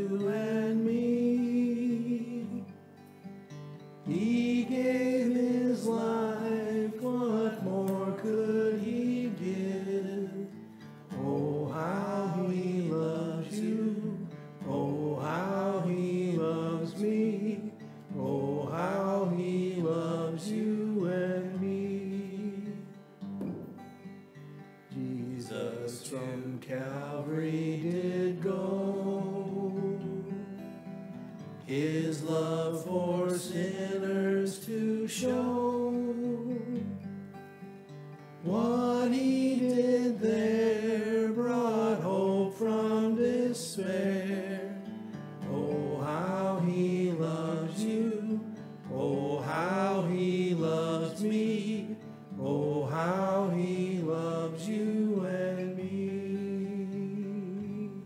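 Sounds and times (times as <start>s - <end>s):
person singing a hymn: 0.0s - 3.0s, 4.0s - 23.9s, 24.9s - 30.8s, 31.6s - 37.5s, 38.4s - 58.0s
guitar accompaniment: 0.0s - 58.0s.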